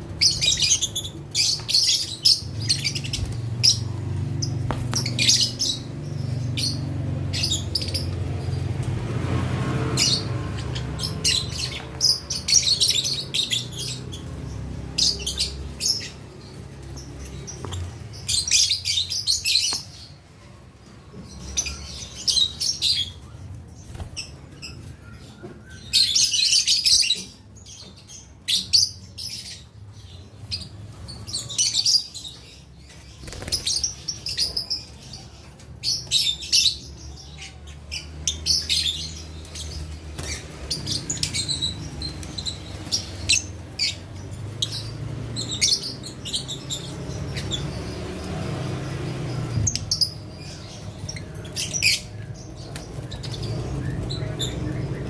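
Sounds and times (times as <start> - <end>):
lovebirds chirping and chattering: 0.0 - 55.0.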